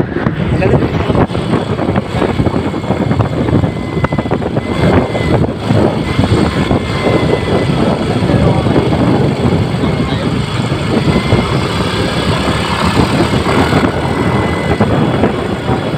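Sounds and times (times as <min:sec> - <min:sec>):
motorcycle engine: 0:00.0 - 0:15.9
wind buffeting microphone: 0:00.0 - 0:15.9.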